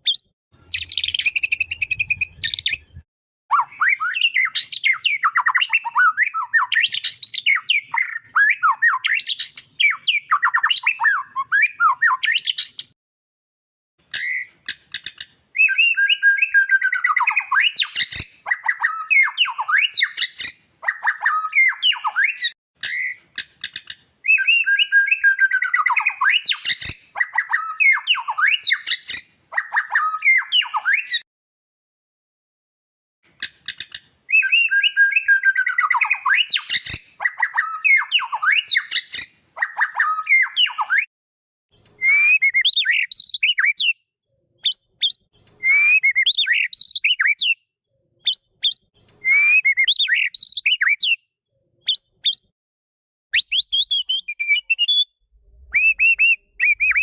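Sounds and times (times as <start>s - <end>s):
bird singing whistled phrases: 0.0s - 13.0s, 14.2s - 14.5s, 15.6s - 23.2s, 24.2s - 31.2s, 34.3s - 41.1s, 42.0s - 44.0s, 44.6s - 47.6s, 48.2s - 51.3s, 51.9s - 52.5s, 53.4s - 57.0s.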